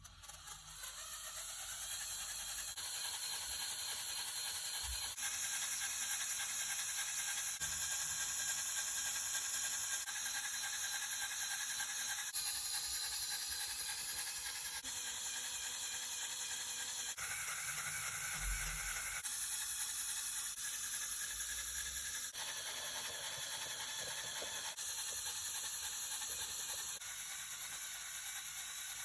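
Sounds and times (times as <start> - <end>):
model engine whirring rattle: 0.0 - 29.0.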